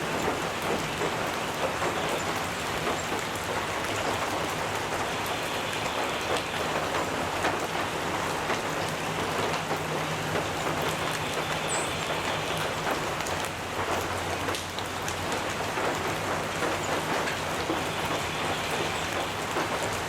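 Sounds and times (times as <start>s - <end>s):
rain pattering on a metal roof: 0.0s - 20.0s.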